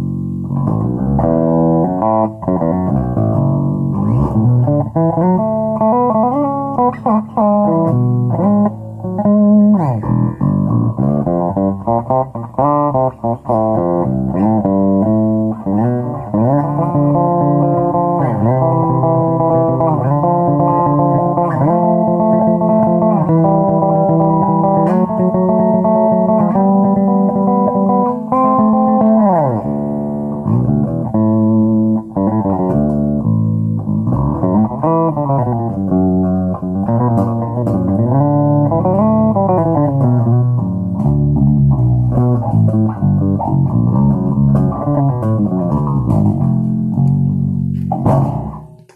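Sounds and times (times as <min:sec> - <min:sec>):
electric bass guitar sliding notes: 0:00.0 - 0:48.9.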